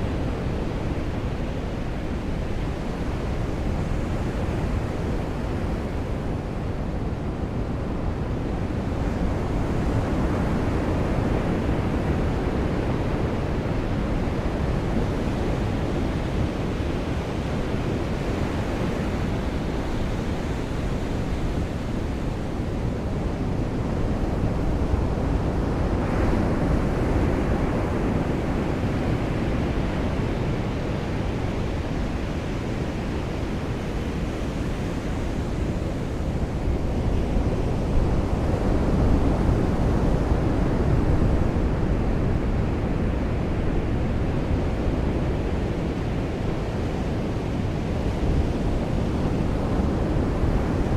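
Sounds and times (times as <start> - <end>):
ocean surf on beach: 0.0 - 50.9.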